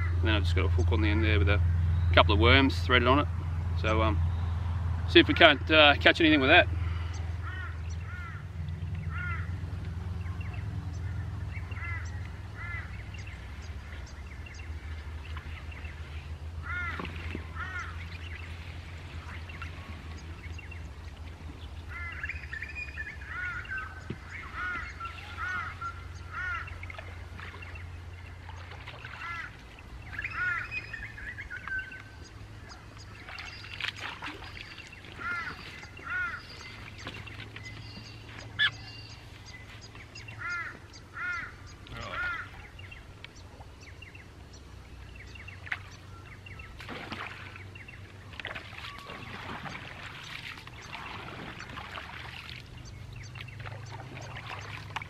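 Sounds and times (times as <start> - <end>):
birds calling: 0.0 - 55.0
low steady rumble: 0.0 - 55.0.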